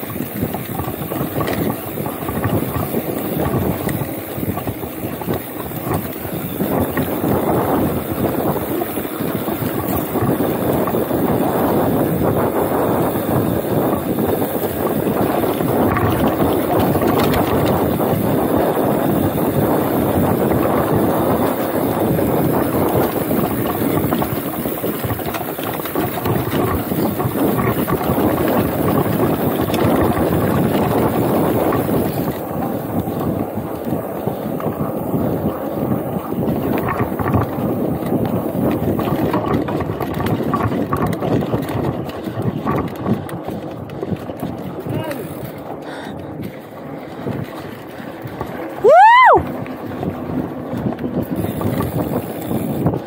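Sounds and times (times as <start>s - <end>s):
bike rattles and knocks: 0.0s - 53.0s
bike tyres rolling on dirt: 0.0s - 53.0s
wind on microphone: 0.0s - 53.0s.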